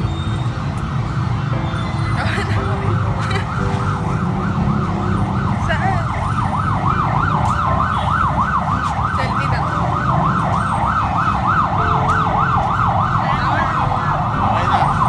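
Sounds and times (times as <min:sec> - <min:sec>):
yelp siren wail: 0:00.0 - 0:15.0.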